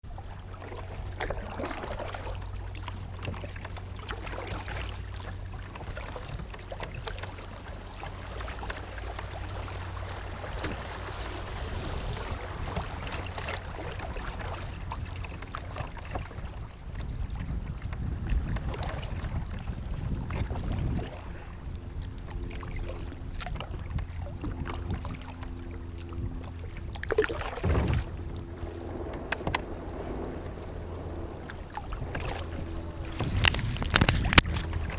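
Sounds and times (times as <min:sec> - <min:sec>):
water washing: 0:00.0 - 0:34.9
wind rumbling on microphone: 0:00.0 - 0:34.9.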